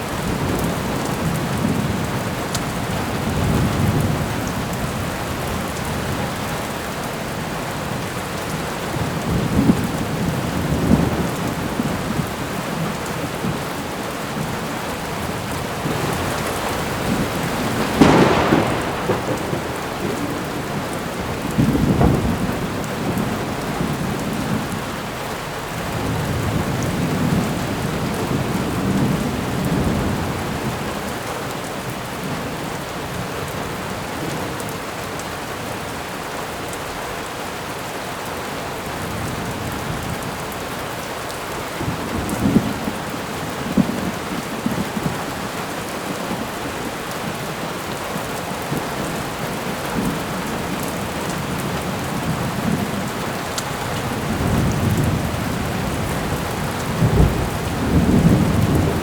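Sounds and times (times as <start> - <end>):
low thunder rumbling: 0.0 - 31.1, 41.5 - 59.0
heavy rain: 0.0 - 59.0.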